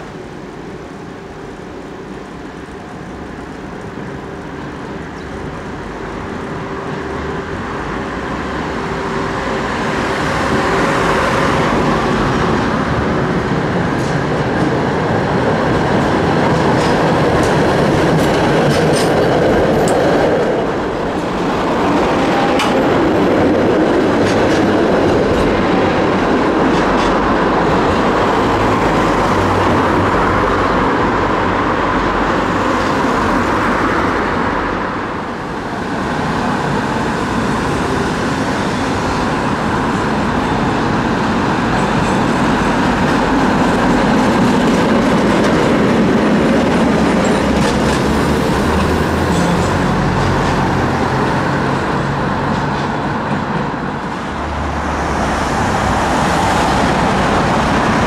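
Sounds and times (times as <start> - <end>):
tram rolling past: 0.0 - 58.0.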